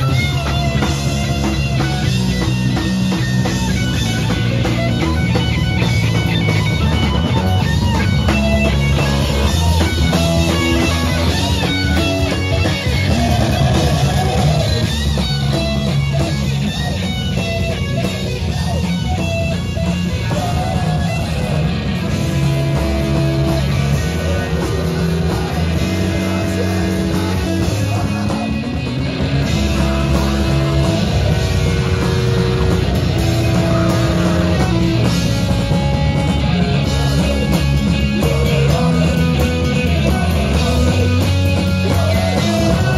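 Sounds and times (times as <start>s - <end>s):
live metal band playing: 0.0s - 42.9s.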